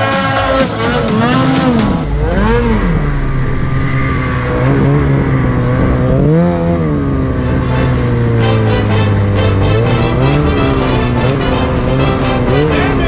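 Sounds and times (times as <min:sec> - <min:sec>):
snowmobile engine revving: 0:00.0 - 0:03.4, 0:04.2 - 0:13.0.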